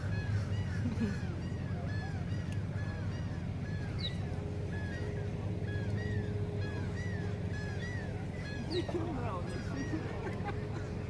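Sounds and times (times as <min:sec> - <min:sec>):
bird calling: 0:00.0 - 0:11.0
steady low rumble: 0:00.0 - 0:11.0.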